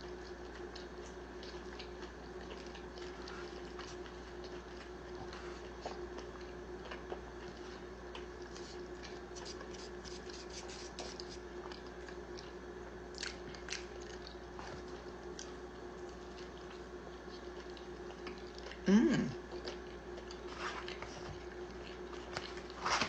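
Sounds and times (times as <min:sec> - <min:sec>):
person chewing crunchy food: 0:00.0 - 0:23.0
steady low hum: 0:00.0 - 0:23.0.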